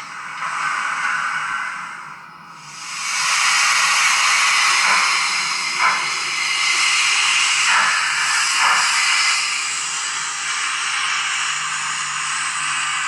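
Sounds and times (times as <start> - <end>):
model locomotive steam hiss: 0.0 - 13.0.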